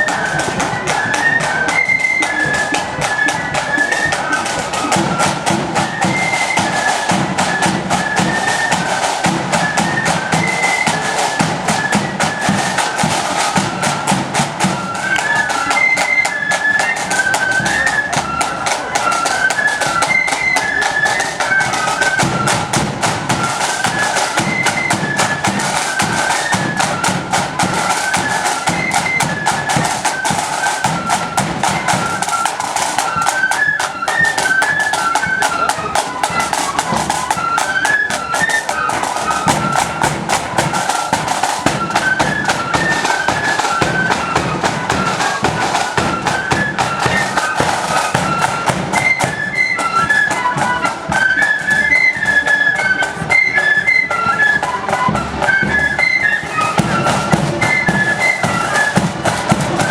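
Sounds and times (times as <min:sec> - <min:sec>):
flutes playing high melody: 0:00.0 - 0:59.9
snare and bass drums: 0:02.9 - 0:15.9, 0:16.9 - 0:50.7, 0:56.7 - 0:59.9.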